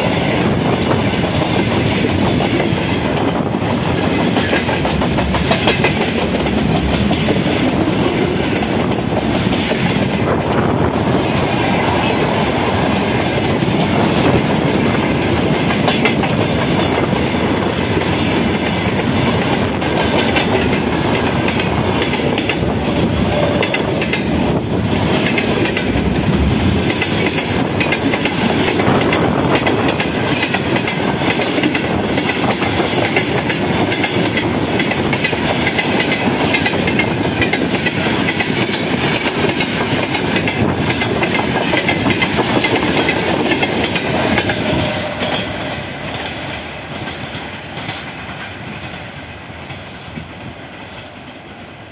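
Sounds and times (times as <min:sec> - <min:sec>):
train wheels clattering over rail joints: 0:00.0 - 0:12.0, 0:12.6 - 0:49.1.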